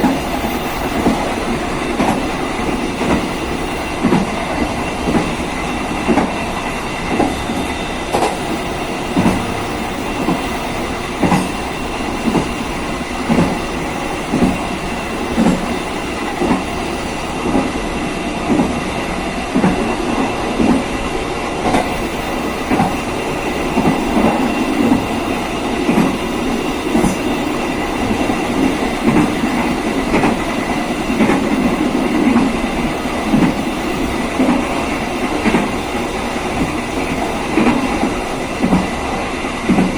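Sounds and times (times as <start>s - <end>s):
train wheels clacking over rail joints: 0.0s - 18.8s, 21.6s - 39.9s
steady train rumble: 0.0s - 39.9s.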